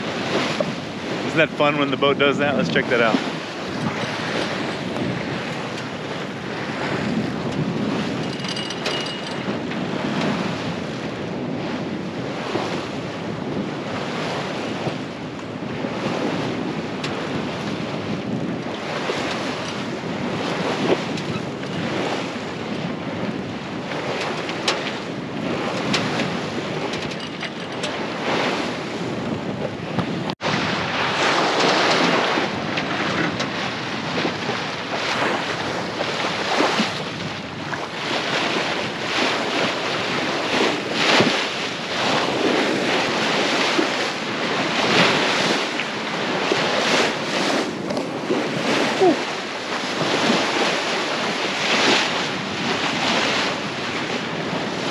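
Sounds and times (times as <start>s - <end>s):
water rushing along hull: 0.0s - 54.9s
wind buffeting microphone: 0.0s - 54.9s.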